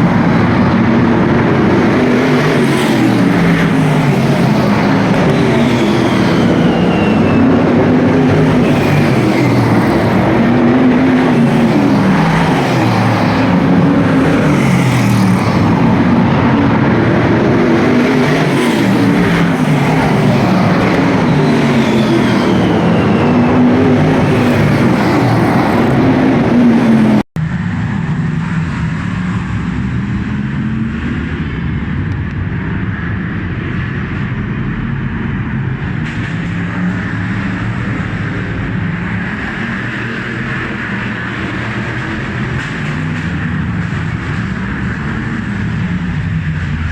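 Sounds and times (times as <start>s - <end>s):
stock car engines racing: 0.0s - 46.9s.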